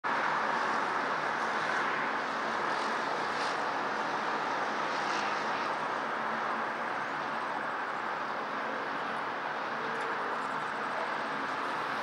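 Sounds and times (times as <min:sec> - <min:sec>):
distant road traffic: 0:00.1 - 0:12.0.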